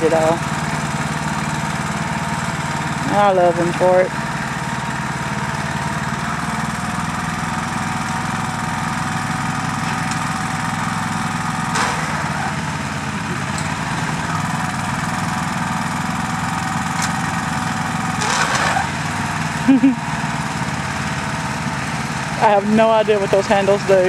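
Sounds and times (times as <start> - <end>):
tiller engine running: 0.0 - 24.0.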